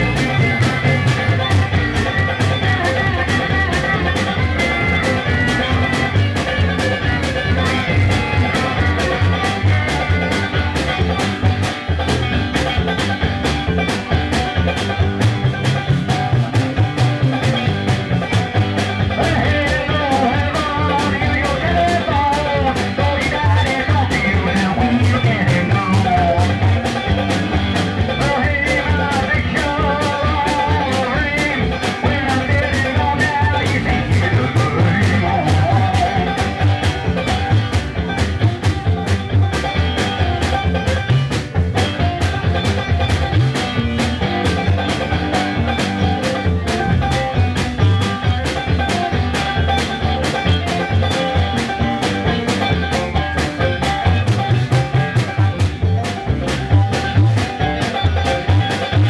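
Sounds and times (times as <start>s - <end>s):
live band playing fast: 0.0s - 59.0s
wavering lead line: 0.0s - 59.0s.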